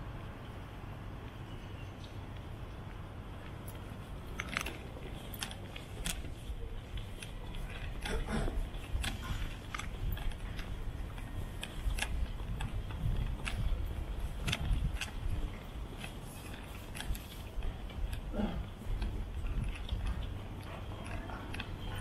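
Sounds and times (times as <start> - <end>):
low street rumble: 0.0 - 22.0.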